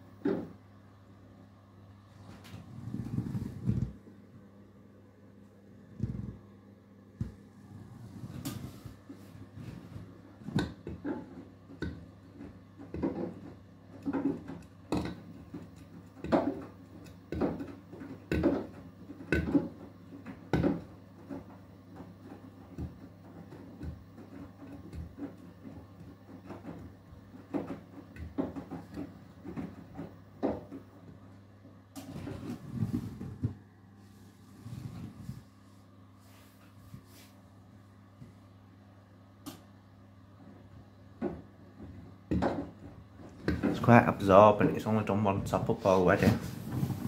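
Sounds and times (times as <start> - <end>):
washing machine motor hum: 0.0 - 47.0
laundry tumbling in washing machine: 1.9 - 4.5, 5.5 - 37.3, 40.2 - 47.0.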